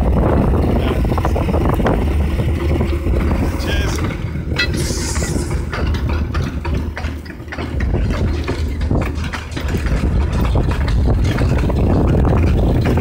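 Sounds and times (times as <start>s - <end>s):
diesel locomotive engine rumble: 0.0s - 13.0s
small wheels rattling on track: 0.0s - 13.0s.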